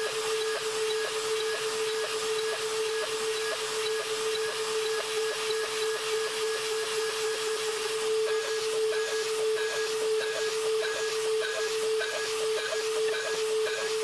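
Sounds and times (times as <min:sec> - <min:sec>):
router milling aluminium: 0:00.0 - 0:14.0.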